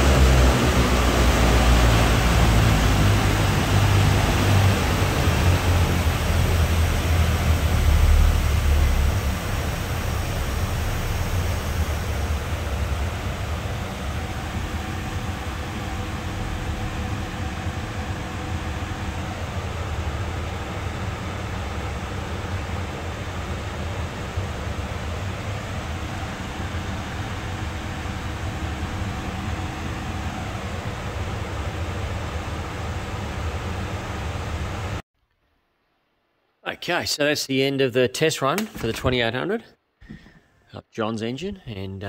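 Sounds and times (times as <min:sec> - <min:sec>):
radial aero engine running: 0:00.0 - 0:35.0.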